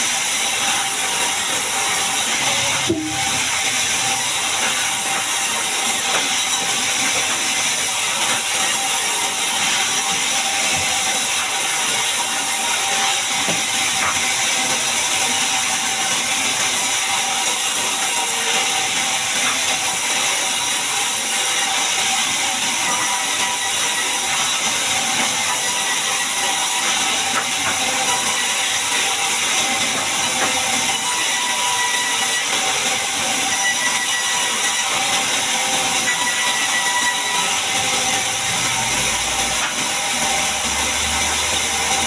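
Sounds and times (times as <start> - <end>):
band saw cutting wood: 0.0 - 42.0.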